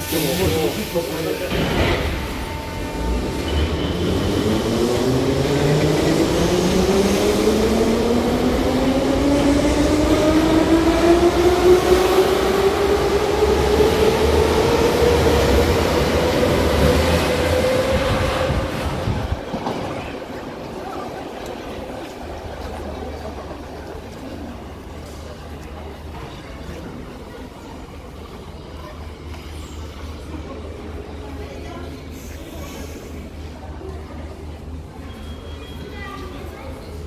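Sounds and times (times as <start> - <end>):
wheels rumbling on rail: 0.0 - 35.2.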